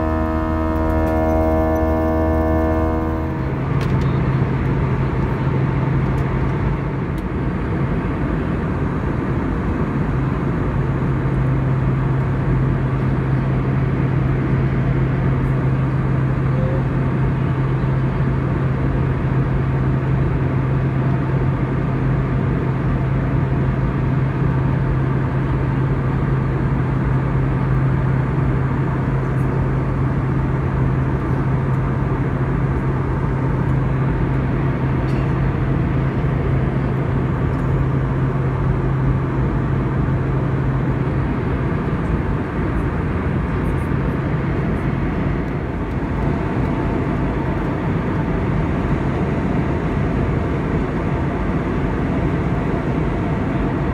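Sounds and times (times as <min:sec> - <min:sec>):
engine and airflow rush: 0:00.0 - 0:53.9
low cabin hum: 0:00.0 - 0:53.9.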